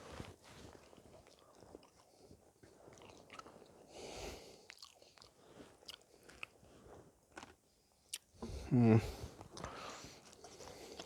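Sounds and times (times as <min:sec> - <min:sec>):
faint chewing: 0:00.1 - 0:11.0.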